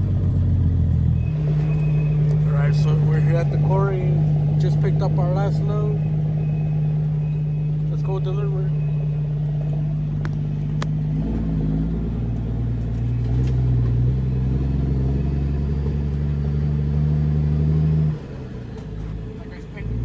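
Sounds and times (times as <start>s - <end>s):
diesel truck engine pulling away: 0.0s - 20.0s.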